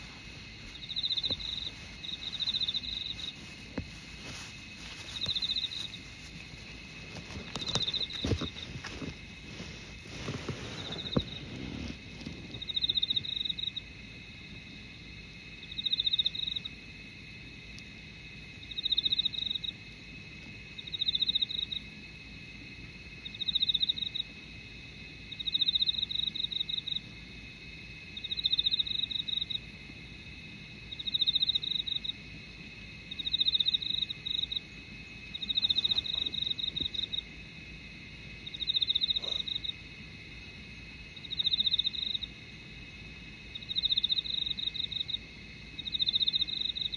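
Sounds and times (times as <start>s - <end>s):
high continuous insect trill: 0.0s - 46.9s
insect buzzy chirping: 0.0s - 46.9s.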